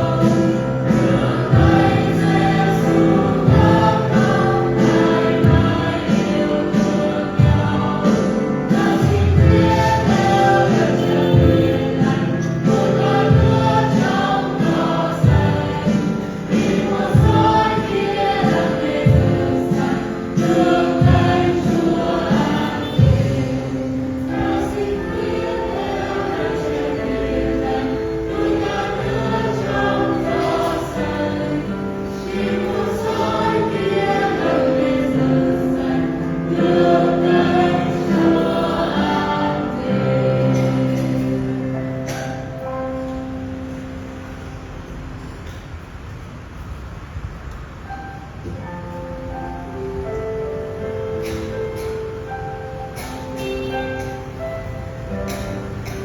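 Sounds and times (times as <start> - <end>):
choir singing a hymn: 0.0 - 44.6, 48.4 - 56.0
musical accompaniment: 0.0 - 45.6.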